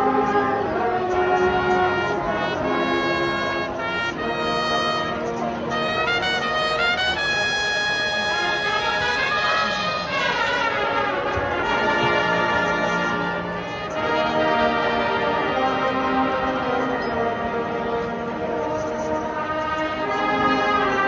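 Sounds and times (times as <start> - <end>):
marching band brass: 0.0 - 21.0.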